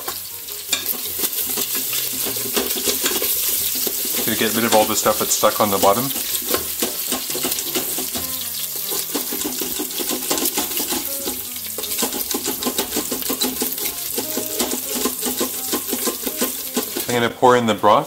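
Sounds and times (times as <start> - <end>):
hot oil sizzling: 0.0 - 18.0
utensil scraping a metal pot: 0.6 - 17.2.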